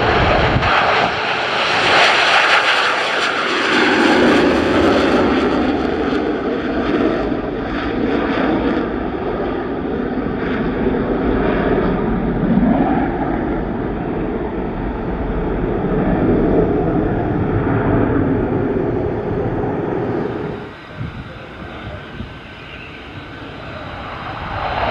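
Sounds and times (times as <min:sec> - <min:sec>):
aircraft engine noise: 0:00.0 - 0:24.9.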